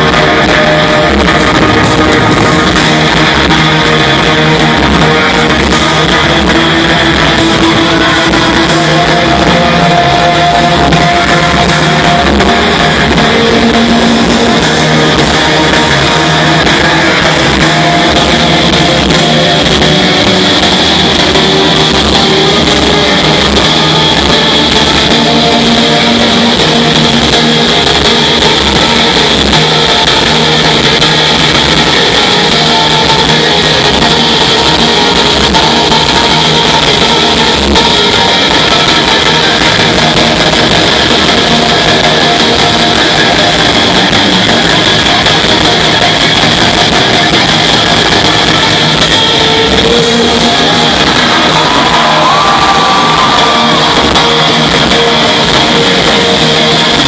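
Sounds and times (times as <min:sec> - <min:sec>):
live rock band: 0:00.0 - 0:57.0.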